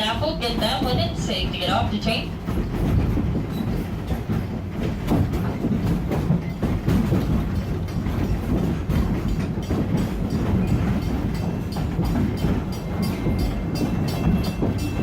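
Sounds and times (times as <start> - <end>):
train rumbling along track: 0.0 - 15.0
wheels clicking and clacking: 0.0 - 15.0.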